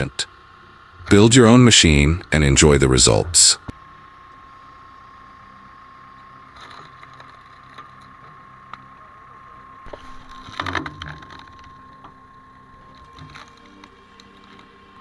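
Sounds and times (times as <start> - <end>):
hydraulic log splitter humming: 0.0 - 15.0
thin whine: 0.0 - 15.0.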